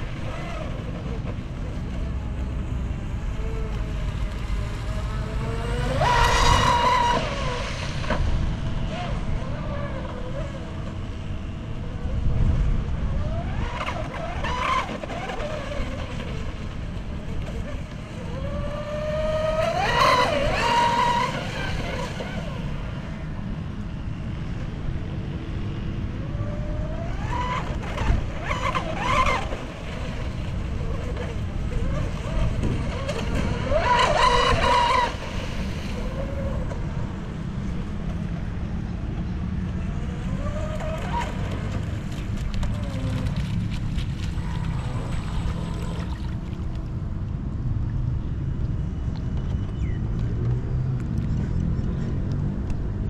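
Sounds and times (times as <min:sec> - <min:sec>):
electric boat motor whining: 0:00.0 - 0:25.2, 0:25.8 - 0:46.7
wind buffeting microphone: 0:00.0 - 0:53.0.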